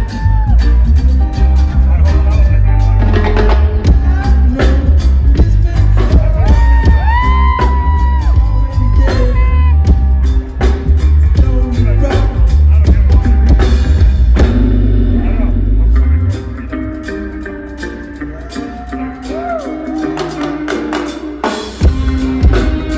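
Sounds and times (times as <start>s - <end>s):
live reggae band: 0.0s - 22.9s
sliding lead melody: 0.0s - 22.9s.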